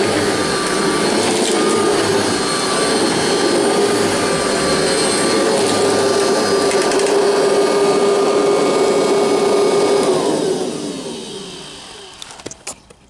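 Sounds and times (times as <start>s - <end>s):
vacuum cleaner motor humming: 0.0s - 12.7s.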